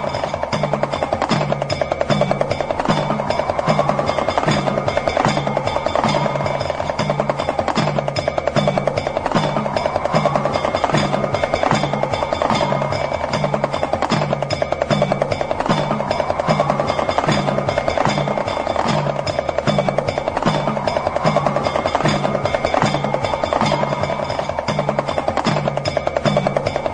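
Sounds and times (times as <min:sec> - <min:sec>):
hand drum rattling roll: 0:00.0 - 0:26.9.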